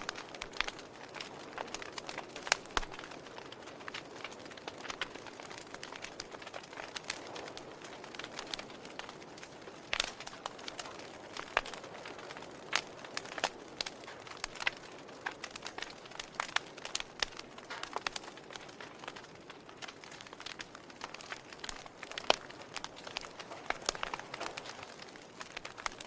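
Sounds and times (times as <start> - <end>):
soft steady hiss: 0.0 - 26.0
wood fire crackling and popping: 0.0 - 26.0.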